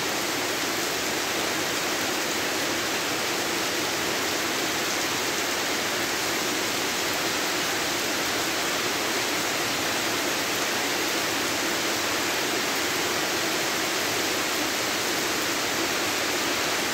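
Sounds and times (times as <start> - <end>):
heavy rain on pavement and plants: 0.0 - 16.9.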